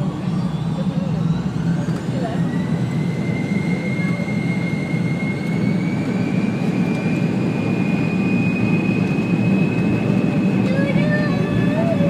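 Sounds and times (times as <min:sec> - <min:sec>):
jet cabin rumble with whine: 0:00.0 - 0:12.0.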